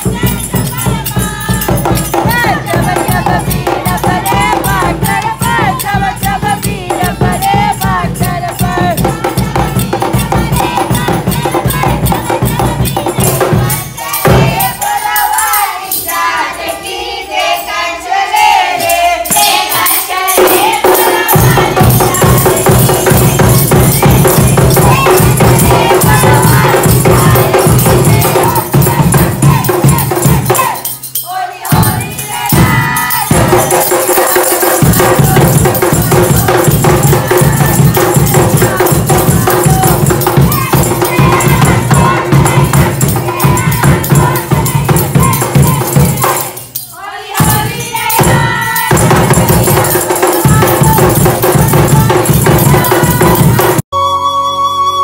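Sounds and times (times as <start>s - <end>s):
hand drum: 0.0s - 14.7s, 20.4s - 30.8s, 31.7s - 46.8s, 47.4s - 53.8s
group singing: 0.0s - 53.8s
jingling percussion: 0.0s - 53.9s.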